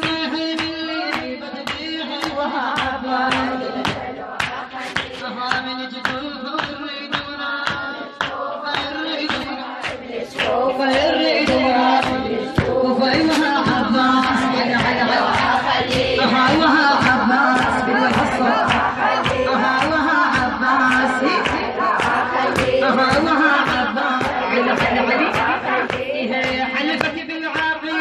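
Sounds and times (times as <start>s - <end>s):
group of voices singing: 0.0s - 28.0s
rhythmic hand strikes: 0.0s - 28.0s
woman chanting a sung lament: 0.0s - 28.0s.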